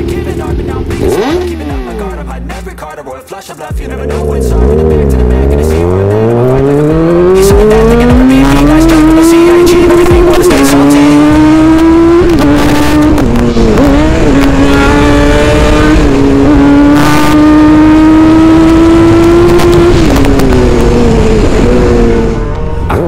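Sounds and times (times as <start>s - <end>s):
motorcycle engine running: 0.0s - 2.5s, 3.7s - 23.0s.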